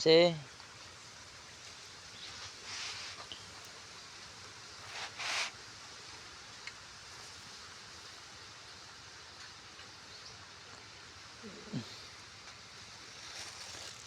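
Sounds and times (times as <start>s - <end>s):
outdoor background hiss: 0.0s - 14.0s
rustle: 0.0s - 14.0s.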